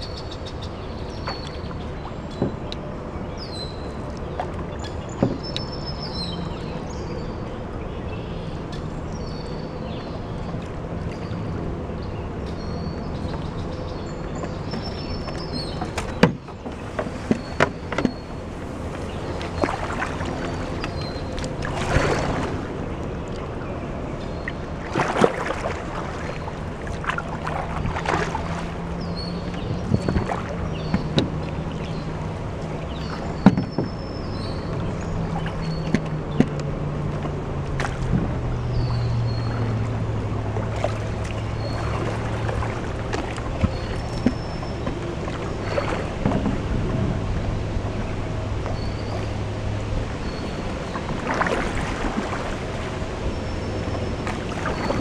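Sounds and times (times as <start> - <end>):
paddle splashing water: 0.0 - 55.0.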